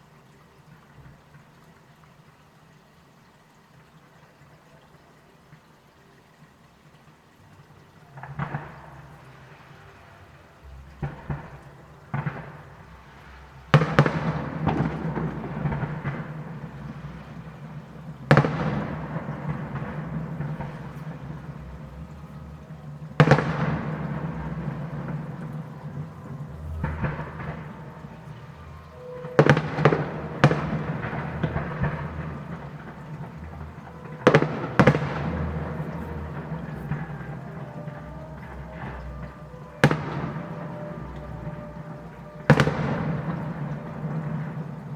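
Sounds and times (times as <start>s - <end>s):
low background noise: 0.0s - 44.9s
crackling fireworks bangs: 8.0s - 44.9s
fireworks bangs: 8.1s - 44.9s.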